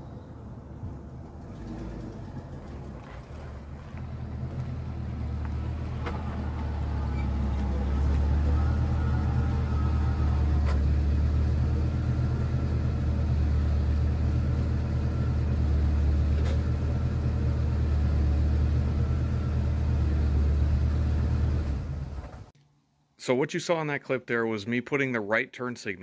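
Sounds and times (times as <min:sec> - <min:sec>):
car engine idling: 0:00.0 - 0:22.5.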